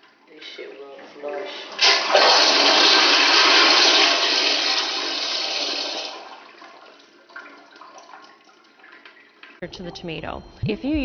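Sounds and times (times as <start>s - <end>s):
toilet flushing: 0.0s - 9.6s.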